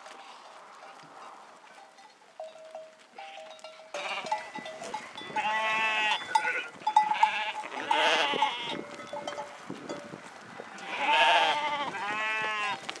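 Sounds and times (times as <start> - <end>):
sheep and goats bleating: 0.0 - 1.9, 2.7 - 10.0, 10.6 - 13.0.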